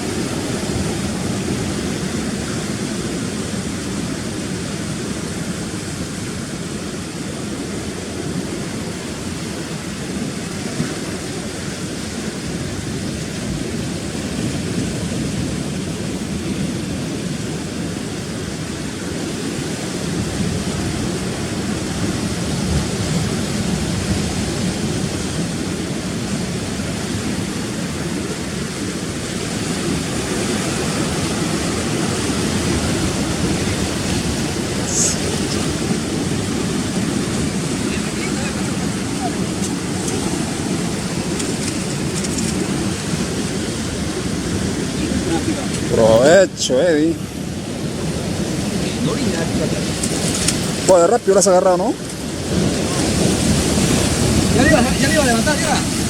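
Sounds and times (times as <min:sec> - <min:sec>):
sea surf washing over rocks: 0:00.0 - 0:56.0.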